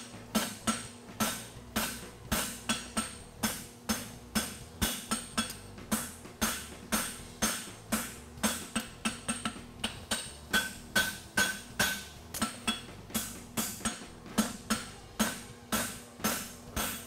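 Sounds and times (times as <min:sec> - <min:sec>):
hammer striking hot metal: 0:00.0 - 0:17.0
anvil ringing: 0:00.4 - 0:17.0.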